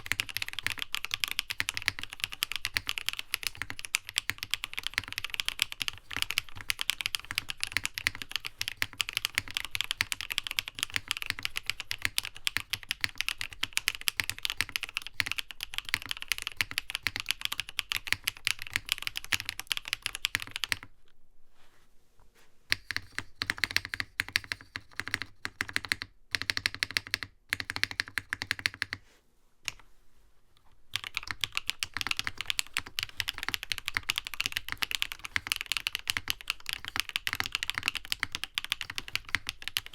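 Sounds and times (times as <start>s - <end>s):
mechanical keyboard typing: 0.0s - 20.9s, 22.7s - 29.0s, 30.9s - 39.9s.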